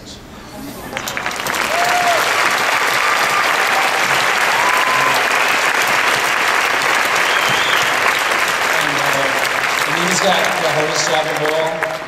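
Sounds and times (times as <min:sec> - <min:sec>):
audience applause: 0:00.9 - 0:12.0.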